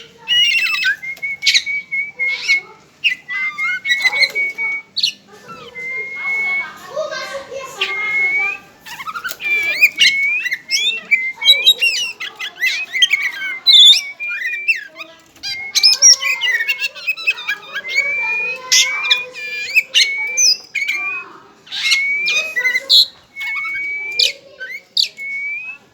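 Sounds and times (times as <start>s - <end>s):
bird singing whistled notes: 0.2s - 25.9s.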